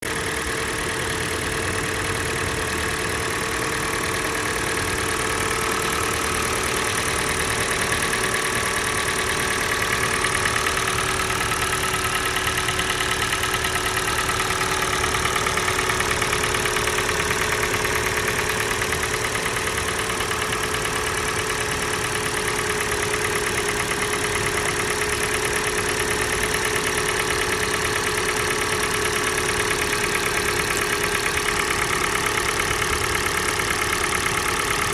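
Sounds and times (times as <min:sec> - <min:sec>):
fast regular engine ticking: 0:00.0 - 0:34.9
petrol engine idling with knock: 0:00.0 - 0:34.9.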